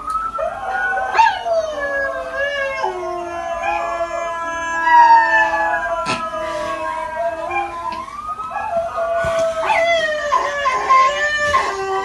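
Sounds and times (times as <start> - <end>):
dogs howling: 0.1 - 12.0.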